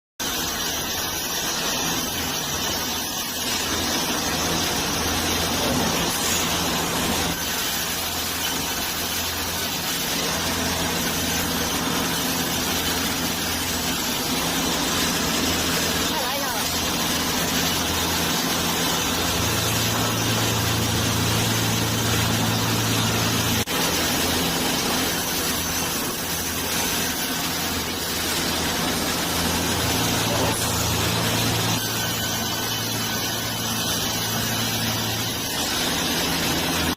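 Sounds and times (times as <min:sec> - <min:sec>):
wood-cutting machinery running: 0:00.2 - 0:36.9.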